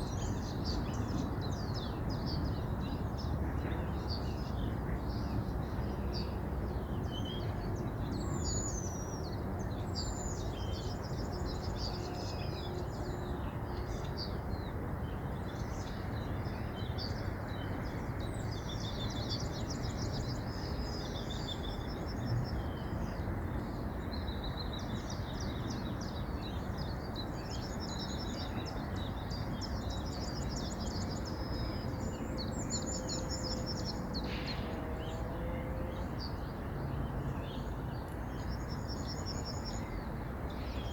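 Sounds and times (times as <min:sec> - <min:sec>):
songbirds trilling and chirping: 0:00.0 - 0:40.9.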